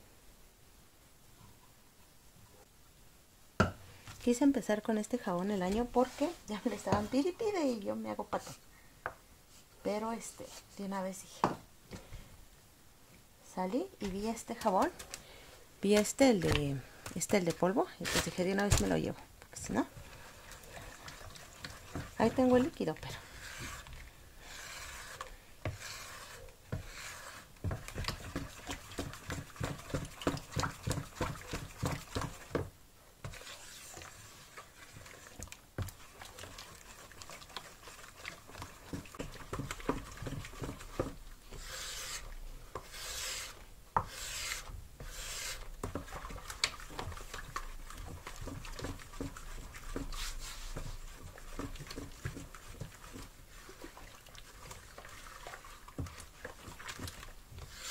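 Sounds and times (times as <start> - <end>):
spatula stirring soapy liquid: 3.9 - 8.7, 13.6 - 57.9.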